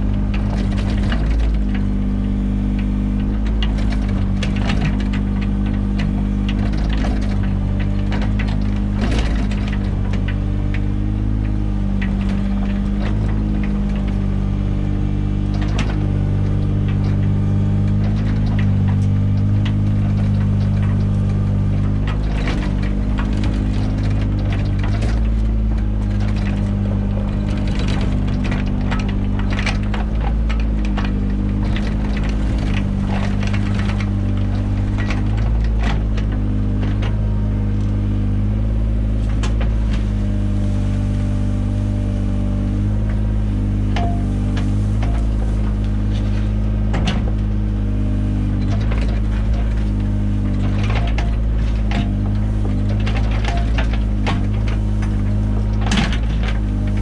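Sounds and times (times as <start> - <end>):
diesel engine running: 0.0 - 57.0
digging knocks and scrapes: 0.0 - 57.0.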